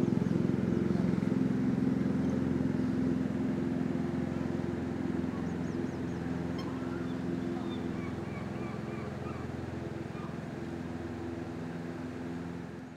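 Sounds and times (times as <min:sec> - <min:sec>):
low motor hum: 0:00.0 - 0:12.9.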